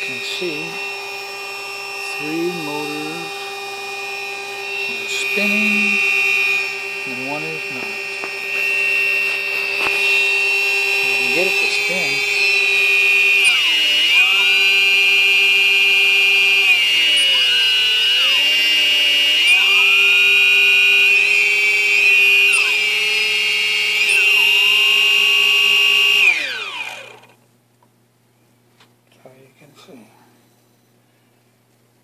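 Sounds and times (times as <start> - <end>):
drone motors whining: 0.0 - 27.4.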